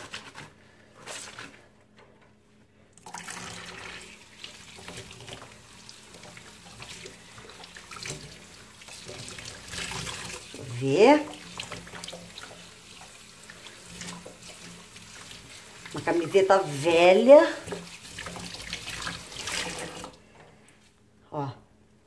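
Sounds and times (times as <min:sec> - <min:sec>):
water sloshing in a sink: 0:03.0 - 0:20.9.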